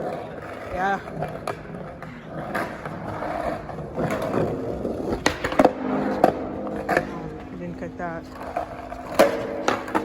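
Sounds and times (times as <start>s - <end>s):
sharp skateboard clacks: 0.0s - 7.5s, 8.3s - 10.0s
skateboard wheels rolling on concrete: 0.0s - 10.0s.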